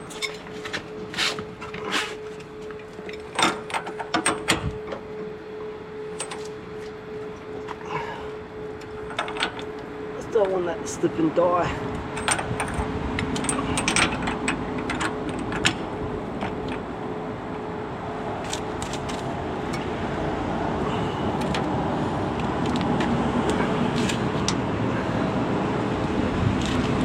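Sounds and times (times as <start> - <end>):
vehicle noise: 0.0 - 27.0.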